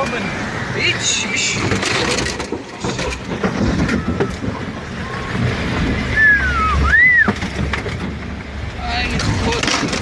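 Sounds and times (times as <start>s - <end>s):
floodwater rushing around car: 0.0s - 10.0s.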